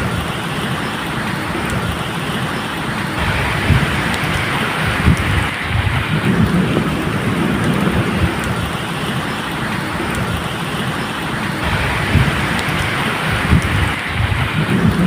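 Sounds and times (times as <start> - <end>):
steady rainfall: 0.0 - 15.0
distant thunder rumble: 1.2 - 15.0.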